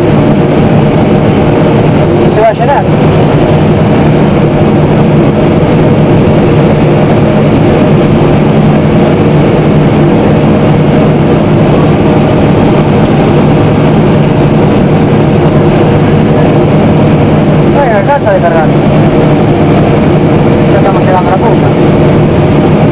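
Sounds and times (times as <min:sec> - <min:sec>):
combine harvester engine drone: 0:00.0 - 0:22.9.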